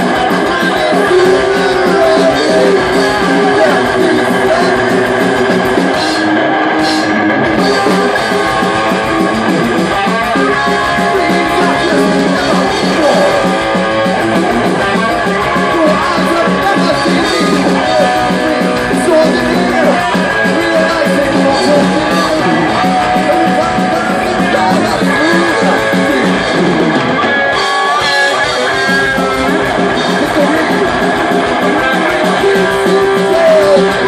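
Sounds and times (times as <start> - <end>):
bass guitar: 0.0 - 34.0
drums: 0.0 - 34.0
electric guitars: 0.0 - 34.0.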